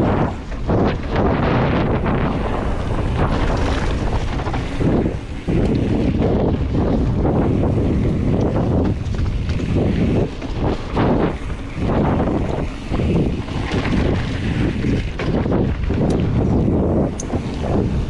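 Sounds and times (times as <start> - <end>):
tyres rumbling on gravel trail: 0.0 - 18.0
wind buffeting microphone: 0.0 - 18.0.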